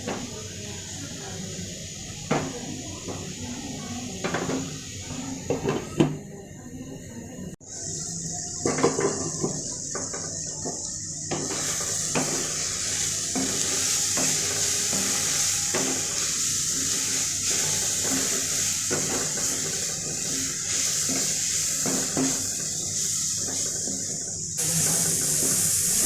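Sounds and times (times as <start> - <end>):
meat sizzling in a pan: 0.0 - 5.6, 7.6 - 26.0.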